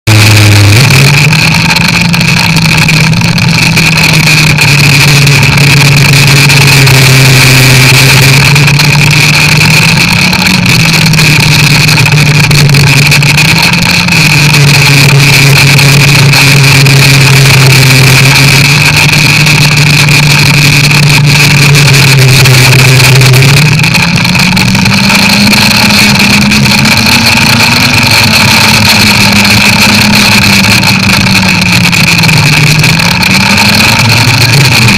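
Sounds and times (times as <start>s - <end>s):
high whine: 0.0s - 34.9s
snowmobile engine running: 0.0s - 34.9s.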